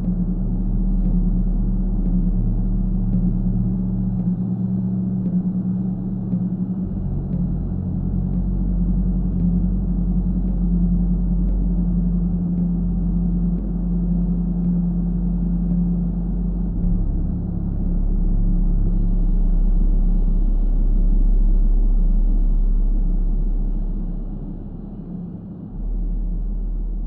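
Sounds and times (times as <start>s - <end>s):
deep hum: 0.0s - 27.0s
steady low tone: 0.0s - 27.0s.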